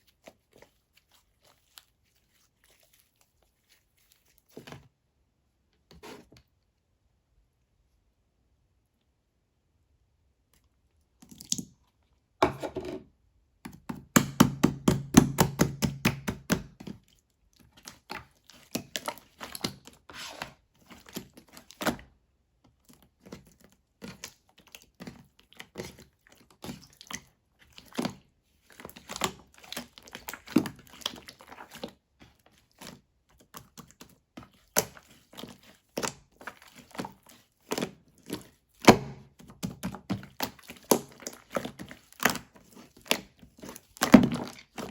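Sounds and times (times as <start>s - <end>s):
slime kneaded by hand: 0.0s - 6.3s, 13.6s - 44.9s.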